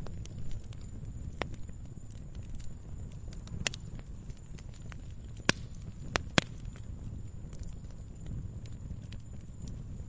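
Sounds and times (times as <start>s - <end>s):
firewood crackling: 0.0s - 10.0s
wood fire rumbling: 0.0s - 10.0s.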